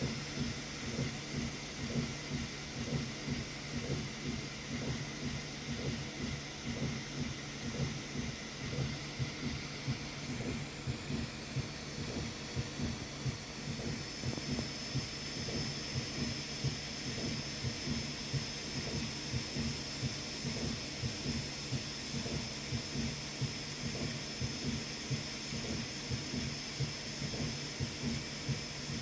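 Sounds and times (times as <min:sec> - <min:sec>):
printer steady hum: 0:00.0 - 0:29.0.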